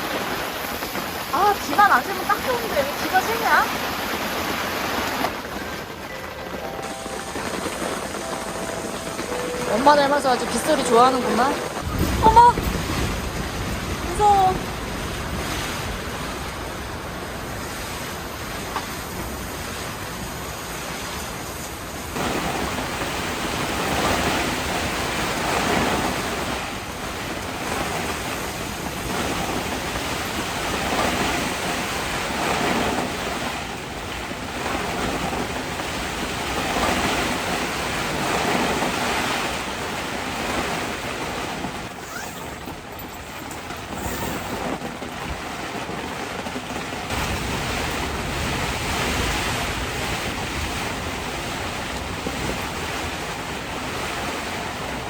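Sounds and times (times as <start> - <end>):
heavy rain on a tent: 0.0 - 55.0
strong wind gusts: 0.0 - 55.0.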